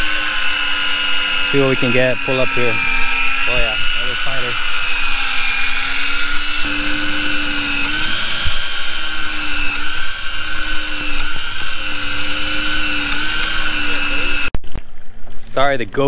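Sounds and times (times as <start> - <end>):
electric fishing reel motor whining: 0.0 - 14.5.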